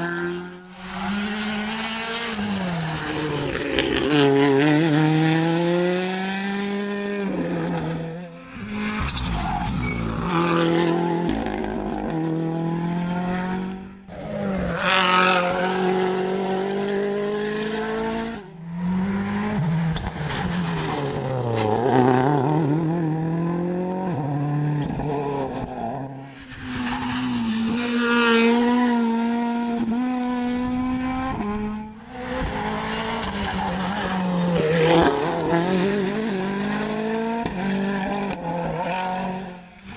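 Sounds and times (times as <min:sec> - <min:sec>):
rally cars revving past: 0:00.0 - 0:39.9.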